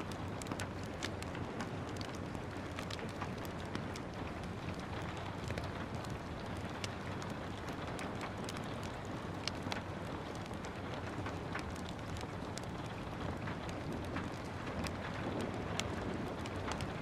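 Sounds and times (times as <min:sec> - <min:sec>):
rain hiss: 0:00.0 - 0:17.0
wood fire crackling and popping: 0:00.0 - 0:17.0.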